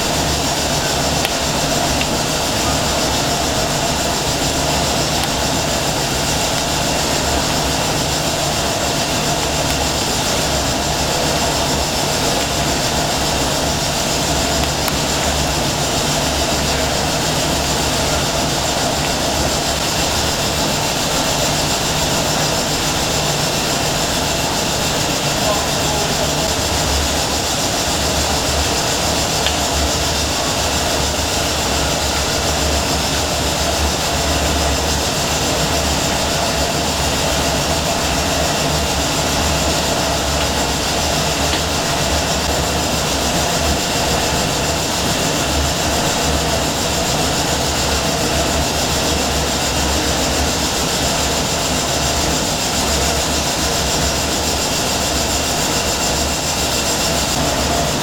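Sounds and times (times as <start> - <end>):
steam engines running: 0.0 - 58.0.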